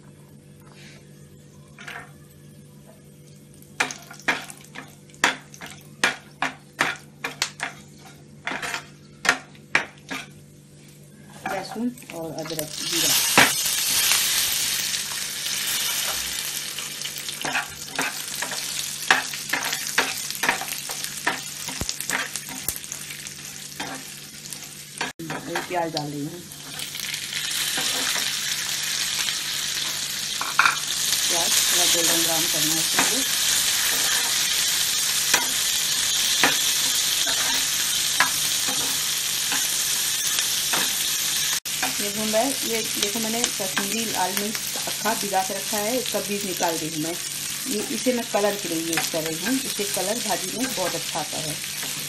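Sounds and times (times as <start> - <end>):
spices sizzling in hot oil: 3.3 - 52.0.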